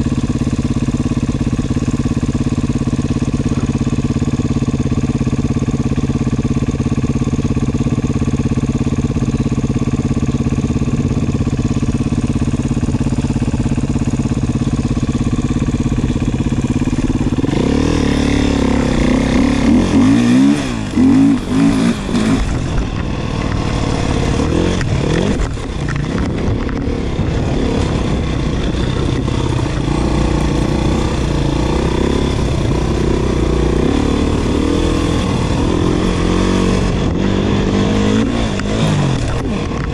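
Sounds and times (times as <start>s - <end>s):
dirt bike engine idling and revving: 0.0s - 39.9s.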